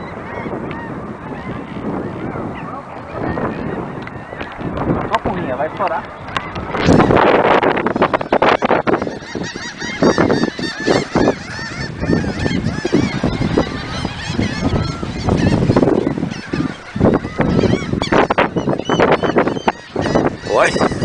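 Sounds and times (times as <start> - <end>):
seabirds calling: 0.0 - 21.0.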